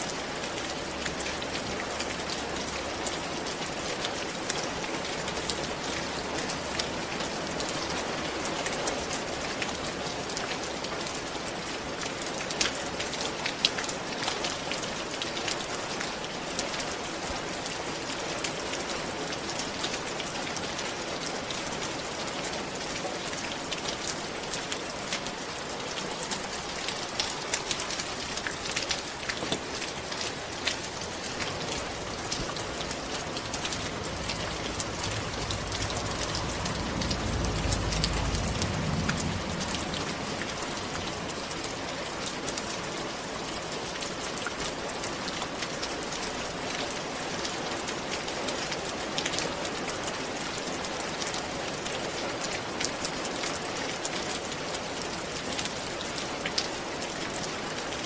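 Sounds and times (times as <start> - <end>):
rain falling on a roof: 0.0 - 58.0.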